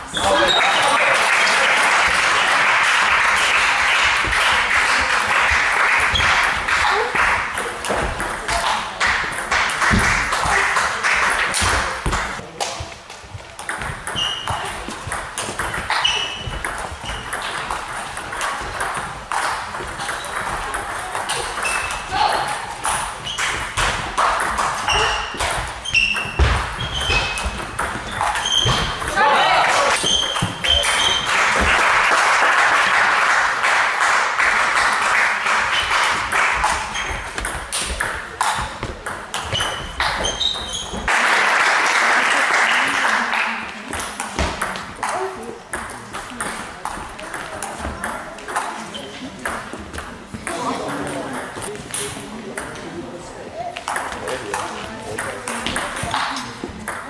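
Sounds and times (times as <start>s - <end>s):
table tennis ball hits and bounces: 3.2s - 29.2s, 29.8s - 32.2s, 35.6s - 41.2s, 43.8s - 52.9s, 53.8s - 57.0s.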